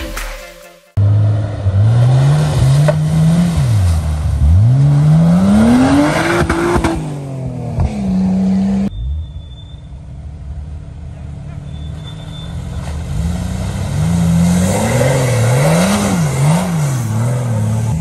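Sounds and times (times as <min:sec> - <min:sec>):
off-road vehicle engine revving: 0:01.0 - 0:18.0.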